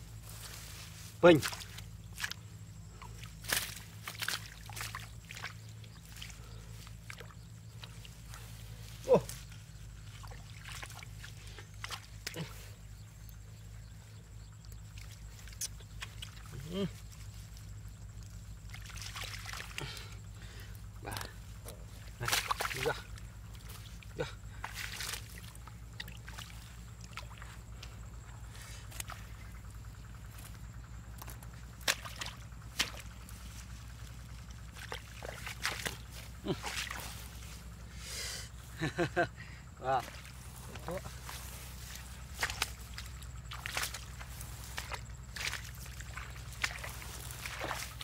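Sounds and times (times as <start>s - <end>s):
wet squelches and splashes in mud: 0.1s - 39.0s, 39.7s - 48.0s.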